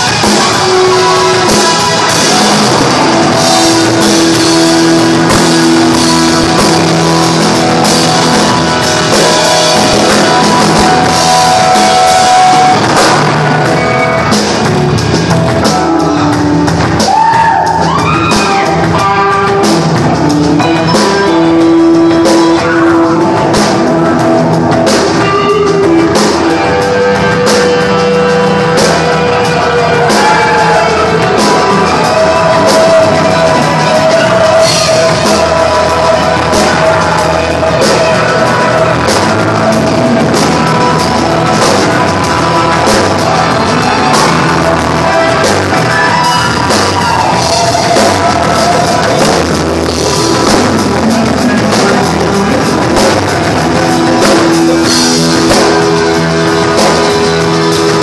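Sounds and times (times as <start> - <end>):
drum kit beat: 0.0 - 58.0
electric guitar lead: 0.0 - 58.0.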